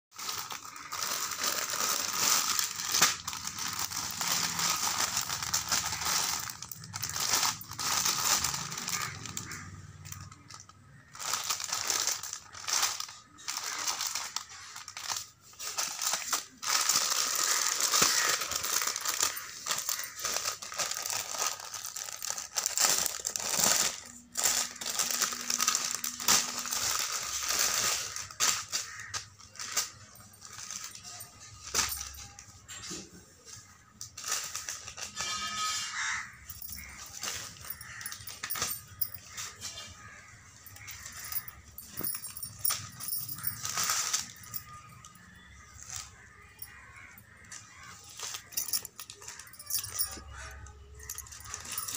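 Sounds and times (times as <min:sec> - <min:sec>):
plastic packaging crinkling: 0:00.1 - 0:51.9.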